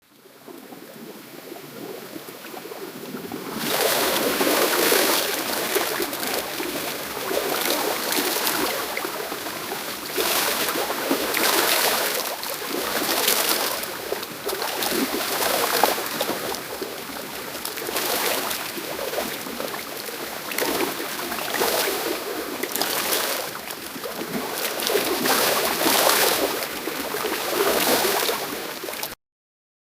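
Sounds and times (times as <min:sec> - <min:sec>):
muffled underwater splashing and bubbling: 0:00.2 - 0:29.1.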